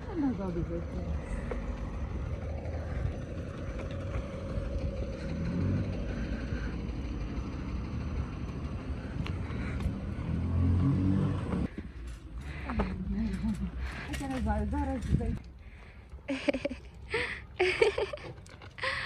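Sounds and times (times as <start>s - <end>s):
vehicle engine running: 0.0s - 15.9s
low street rumble: 0.0s - 19.0s.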